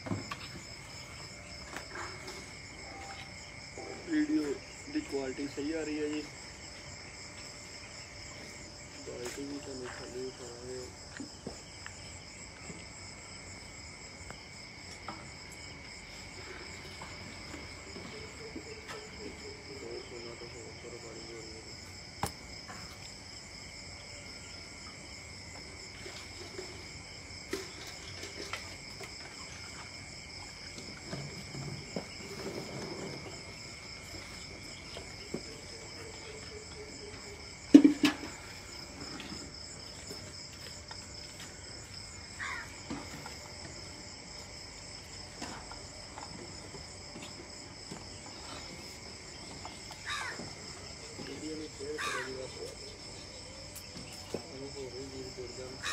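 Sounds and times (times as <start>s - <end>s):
crickets chirring: 0.0s - 55.9s.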